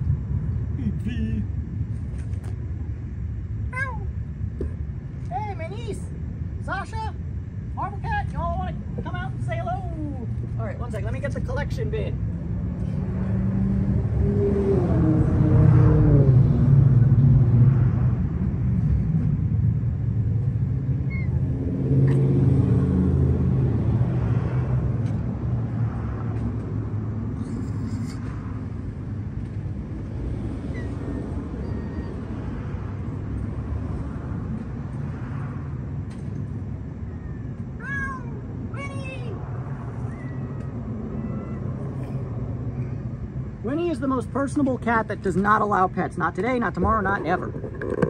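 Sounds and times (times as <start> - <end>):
vehicle engine rumble: 0.0 - 48.0.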